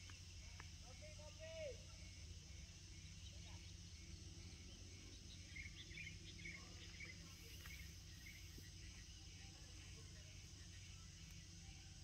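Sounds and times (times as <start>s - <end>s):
low rumble and hiss: 0.0s - 12.0s.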